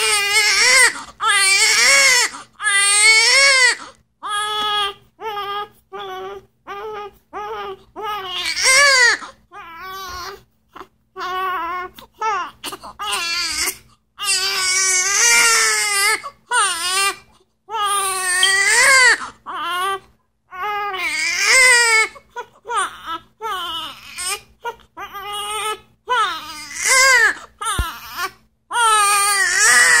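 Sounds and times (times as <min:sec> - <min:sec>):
baby crying: 0:00.0 - 0:30.0.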